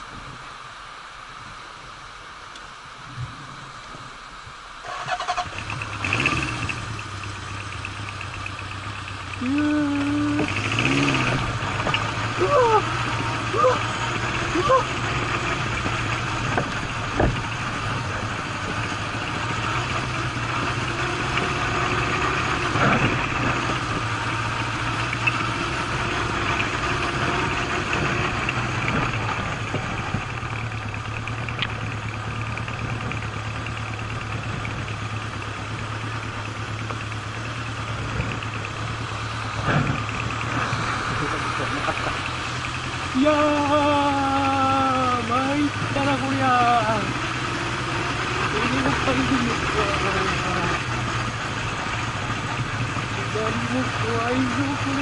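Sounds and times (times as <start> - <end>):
motorcycle engine at low revs: 0.0 - 55.0.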